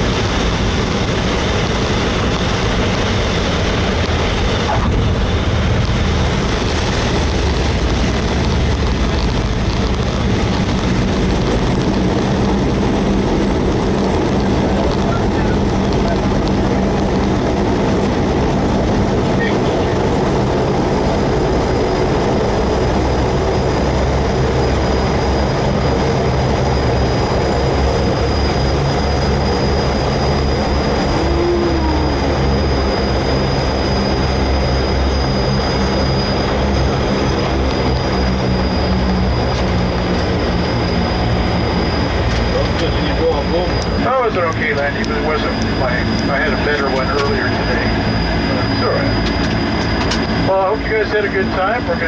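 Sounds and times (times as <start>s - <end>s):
high turbine whine: 0.0s - 52.0s
turboprop engine drone: 0.0s - 52.0s.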